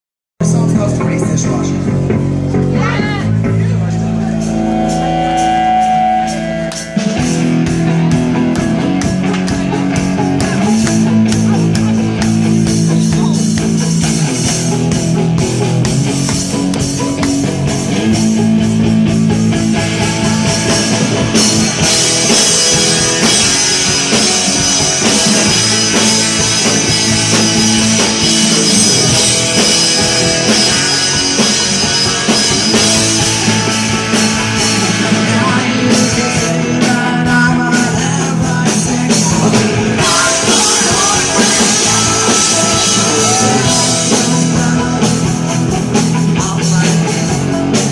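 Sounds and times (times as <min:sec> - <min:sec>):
punk rock band playing live: 0:00.4 - 0:47.9.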